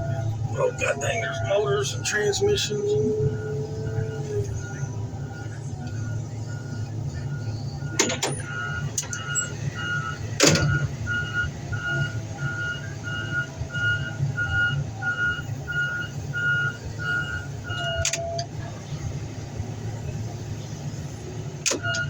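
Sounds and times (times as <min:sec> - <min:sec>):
reversing alarm beeping: 0:00.0 - 0:18.5, 0:21.8 - 0:22.0
diesel engine rumble: 0:00.0 - 0:22.0.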